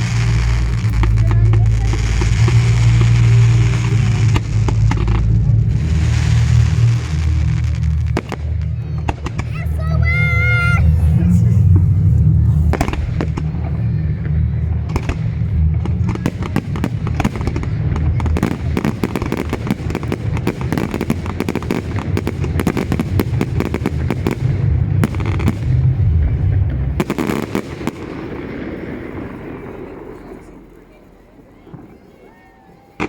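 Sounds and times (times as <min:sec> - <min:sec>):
deep continuous rumble: 0:00.0 - 0:33.0
fireworks bangs and crackling: 0:00.0 - 0:33.0.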